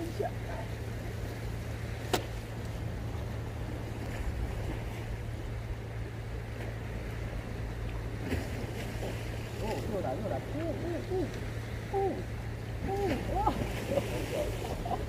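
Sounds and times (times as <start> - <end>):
low rumble of seaside ambience: 0.0 - 15.0.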